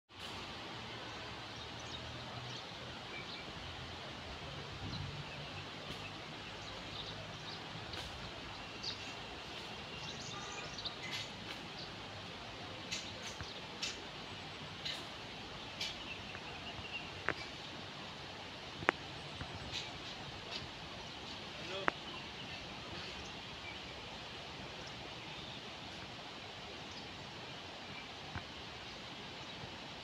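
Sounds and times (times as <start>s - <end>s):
steady outdoor hiss: 0.1s - 30.0s.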